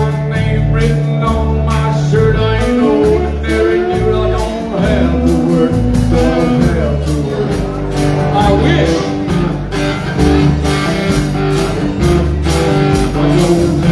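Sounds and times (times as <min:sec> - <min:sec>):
live band playing: 0:00.0 - 0:13.9.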